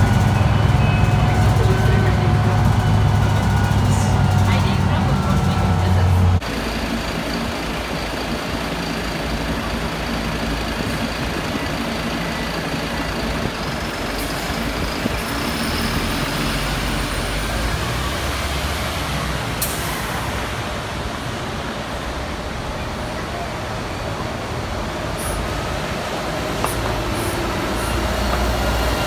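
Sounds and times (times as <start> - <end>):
diesel bus idling: 0.0 - 29.0.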